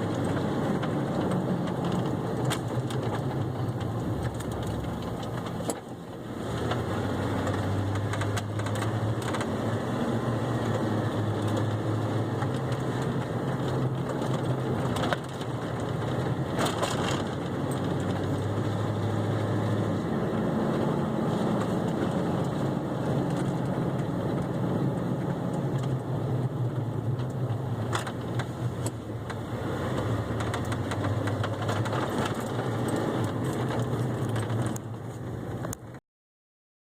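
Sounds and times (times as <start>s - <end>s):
pickup truck engine hum: 0.0s - 36.0s
truck ticking and clicks: 0.0s - 36.0s.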